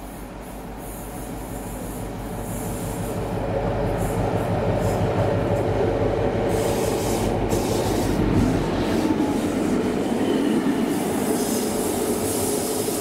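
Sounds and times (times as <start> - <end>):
diesel locomotive passing: 0.0 - 13.0
train wheels on rails: 0.0 - 13.0.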